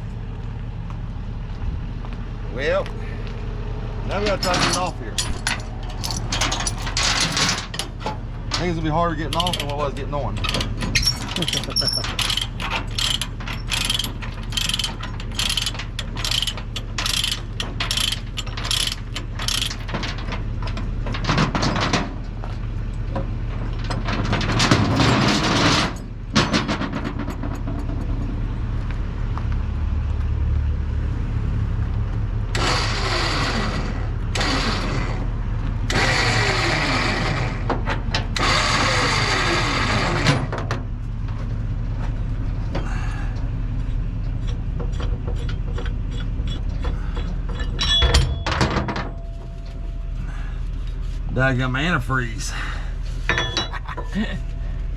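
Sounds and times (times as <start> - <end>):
low engine hum: 0.0 - 54.9.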